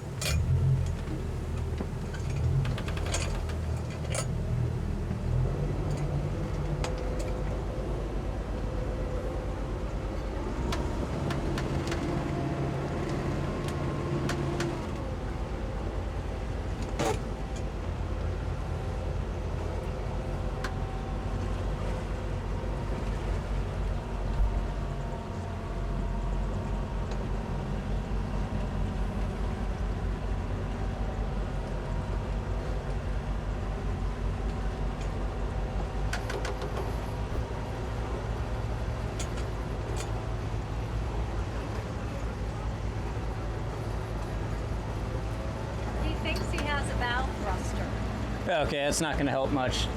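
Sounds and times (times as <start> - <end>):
outboard motors droning: 0.0 - 49.9.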